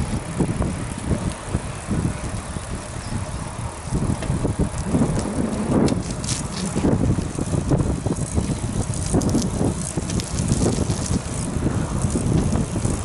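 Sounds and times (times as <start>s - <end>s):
tyre and road rumble: 0.0s - 13.0s
wind buffeting microphone: 0.0s - 13.0s.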